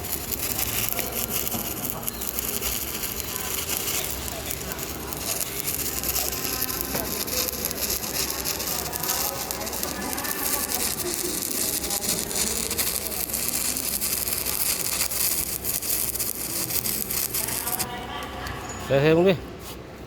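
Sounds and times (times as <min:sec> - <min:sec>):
arc welding crackling: 0:00.0 - 0:19.1.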